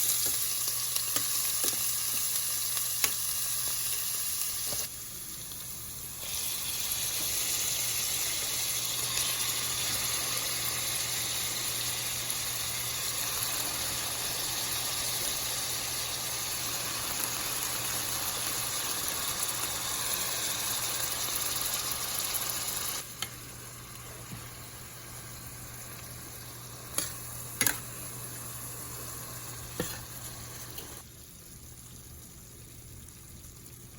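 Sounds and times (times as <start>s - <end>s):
meat sizzling in a frying pan: 0.0s - 33.9s.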